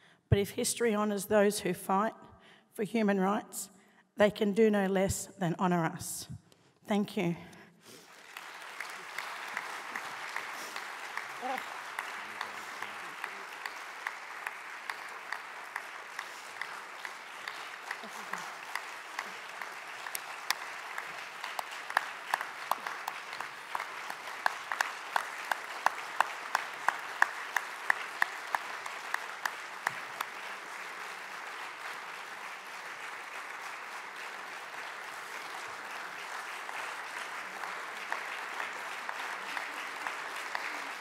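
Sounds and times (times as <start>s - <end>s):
audience applauding: 7.9s - 41.0s.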